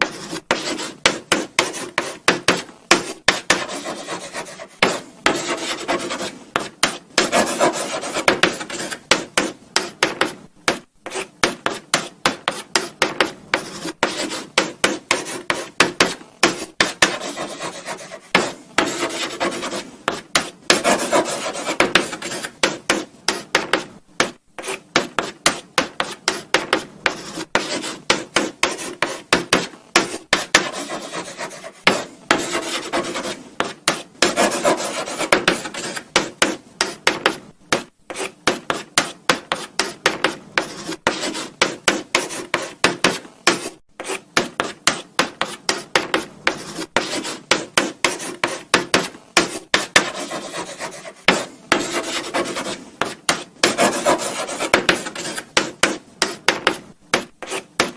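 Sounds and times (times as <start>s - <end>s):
chalk scratching on blackboard: 0.0s - 57.9s
chalk tapping on board: 0.0s - 57.9s.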